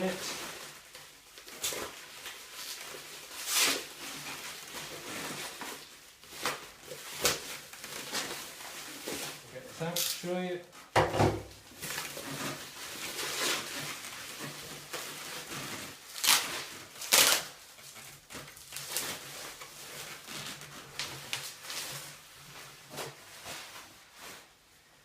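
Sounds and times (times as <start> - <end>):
packaging rustling: 0.0 - 10.8, 11.5 - 24.7.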